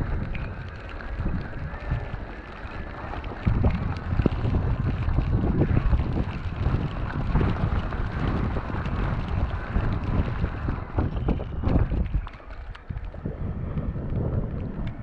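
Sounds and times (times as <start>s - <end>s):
bike knocks and crackles: 0.0s - 13.2s
wind buffeting microphone: 0.0s - 15.0s.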